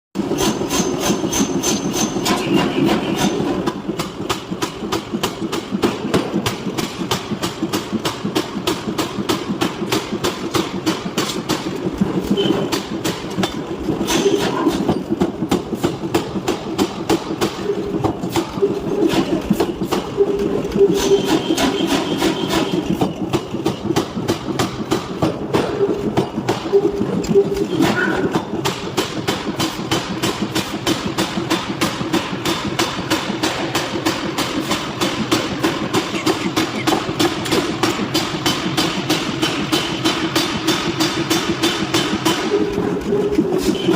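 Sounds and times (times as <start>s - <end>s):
forging hammer pounding: 0.2s - 43.9s
steady machine hum: 0.2s - 43.9s.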